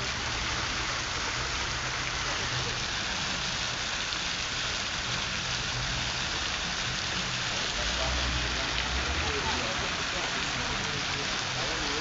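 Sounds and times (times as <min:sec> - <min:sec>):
heavy rain on asphalt: 0:00.0 - 0:12.0.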